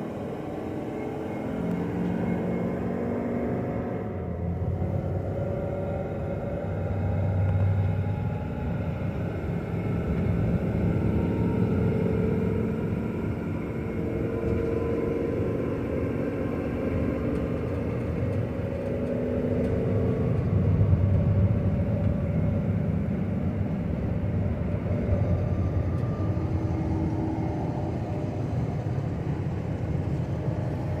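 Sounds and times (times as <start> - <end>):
road noise inside cab: 0.0 - 31.0
truck engine accelerating: 0.0 - 31.0.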